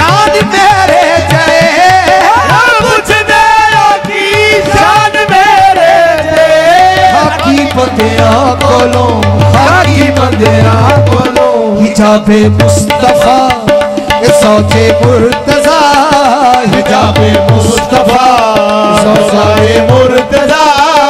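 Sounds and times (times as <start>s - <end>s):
harmonium: 0.0s - 21.0s
tabla rhythm: 0.0s - 21.0s.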